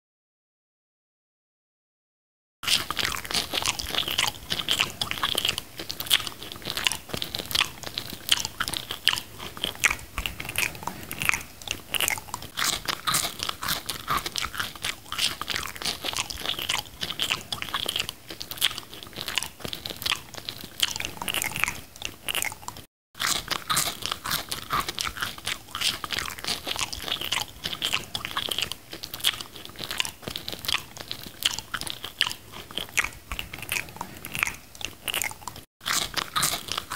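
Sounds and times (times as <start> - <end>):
crunchy fries chewing: 2.6 - 36.9.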